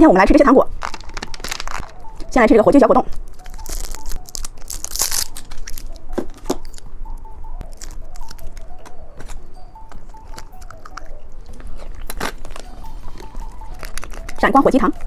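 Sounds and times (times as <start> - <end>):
plastic packaging crinkling and tearing: 0.8 - 2.3, 3.1 - 6.9, 7.7 - 15.0.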